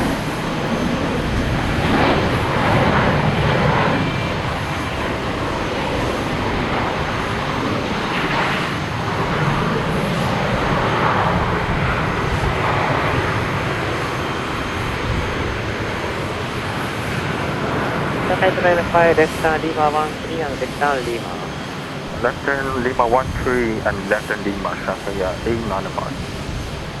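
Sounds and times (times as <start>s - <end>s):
jet engine rush: 0.0s - 27.0s.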